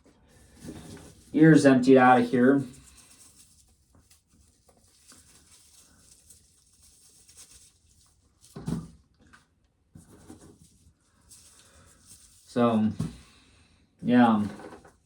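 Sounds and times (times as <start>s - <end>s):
dried corn rustling and clicking: 0.4s - 12.9s.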